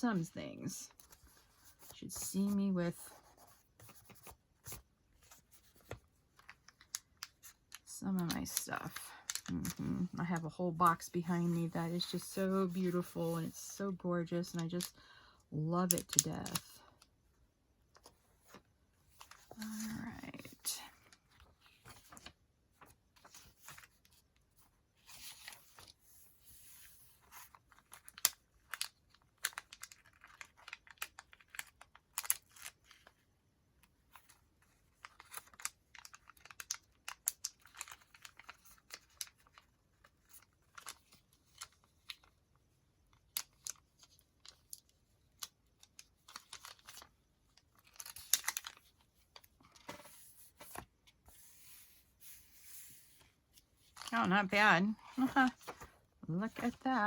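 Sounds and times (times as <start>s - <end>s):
paper rustling and crinkling: 0.6s - 13.5s, 18.0s - 33.2s, 34.0s - 42.5s, 43.2s - 57.0s.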